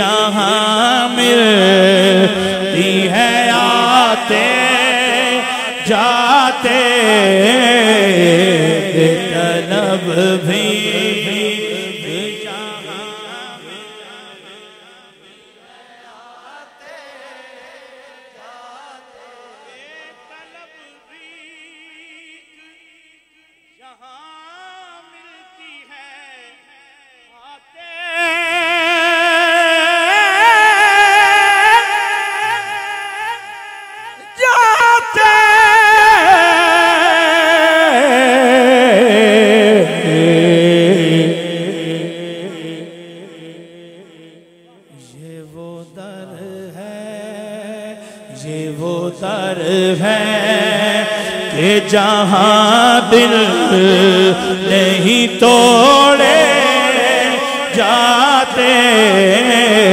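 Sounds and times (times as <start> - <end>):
man singing through a microphone: 0.0 - 59.9.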